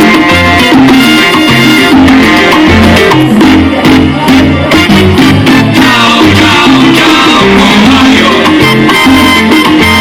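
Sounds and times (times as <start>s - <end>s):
salsa dance music: 0.0s - 10.0s.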